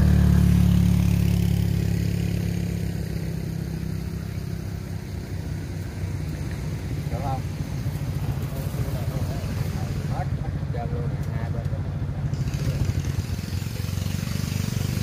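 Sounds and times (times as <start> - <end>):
machinery engines droning: 0.0 - 15.0.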